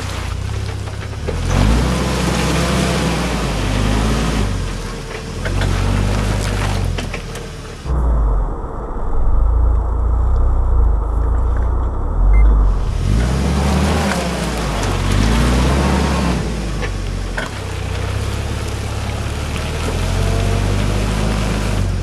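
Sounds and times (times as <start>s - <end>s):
car engine running at low revs: 0.0s - 22.0s.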